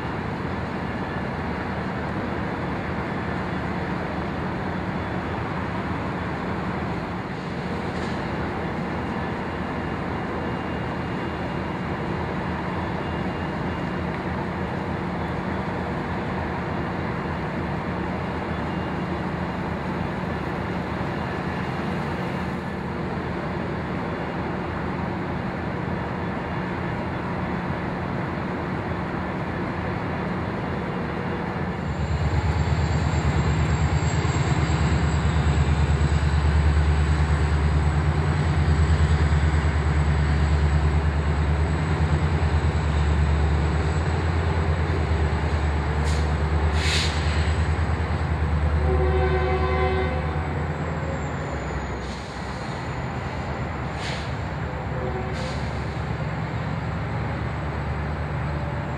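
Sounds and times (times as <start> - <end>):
diesel locomotive engine rumble: 0.0 - 58.9.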